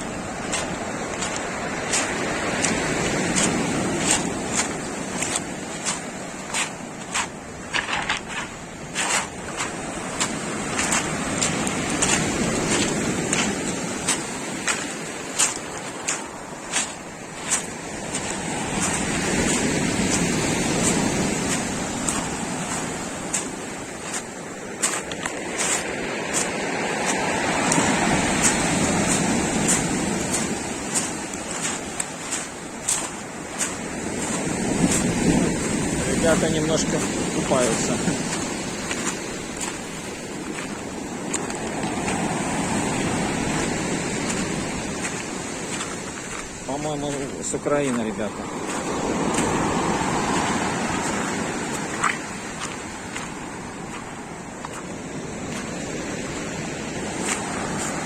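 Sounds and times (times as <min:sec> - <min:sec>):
sea waves washing onto shore: 0:00.0 - 0:58.0
surf breaking on beach: 0:00.0 - 0:58.0.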